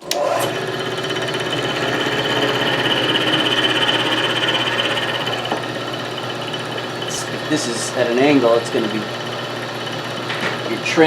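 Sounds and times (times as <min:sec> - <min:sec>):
milling machine hum and whine: 0:00.0 - 0:11.0.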